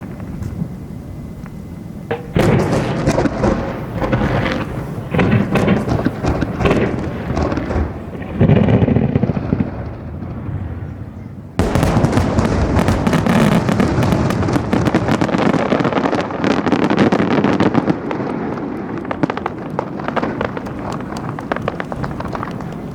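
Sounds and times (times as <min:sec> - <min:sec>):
firework shells crackling: 0:02.1 - 0:10.6, 0:11.6 - 0:22.9
deep firework boom: 0:02.1 - 0:22.9.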